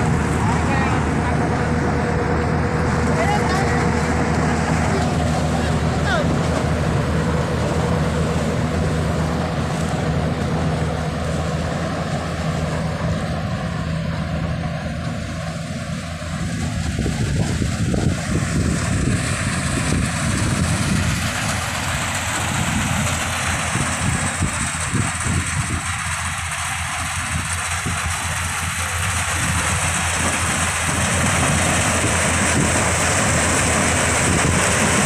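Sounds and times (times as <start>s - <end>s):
combine harvester engine running: 0.0s - 35.0s.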